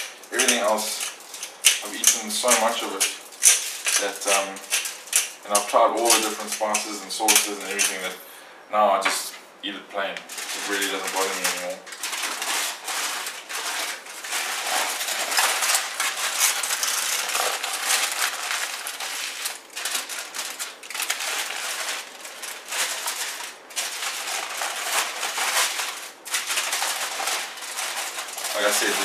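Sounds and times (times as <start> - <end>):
crinkling and rattling: 0.0 - 8.2, 10.2 - 29.0.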